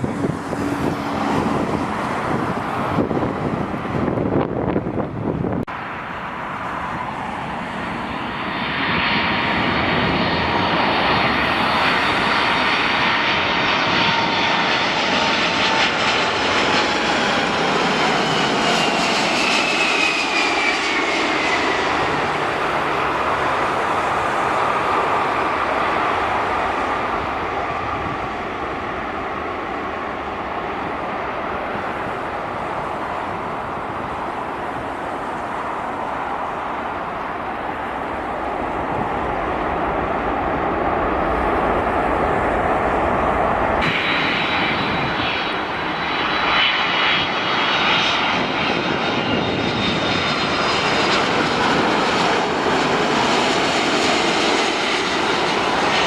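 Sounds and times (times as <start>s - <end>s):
jet airliner passing: 0.0s - 56.0s
jet engines whining: 0.0s - 56.0s.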